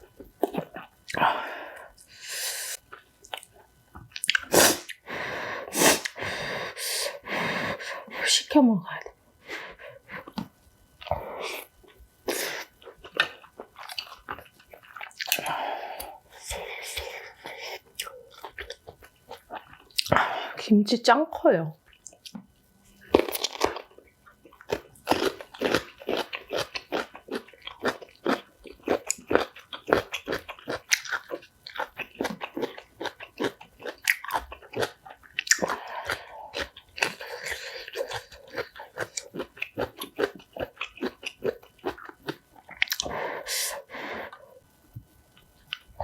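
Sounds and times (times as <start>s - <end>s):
crunching and chewing: 0.0s - 1.2s, 2.8s - 5.0s, 10.1s - 20.6s, 21.8s - 43.2s, 44.2s - 46.0s.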